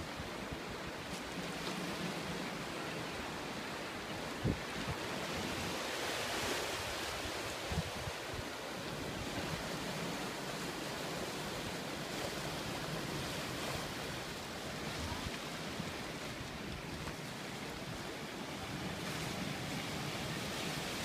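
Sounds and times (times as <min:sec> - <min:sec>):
ocean surf breaking on rocks: 0:00.0 - 0:21.0.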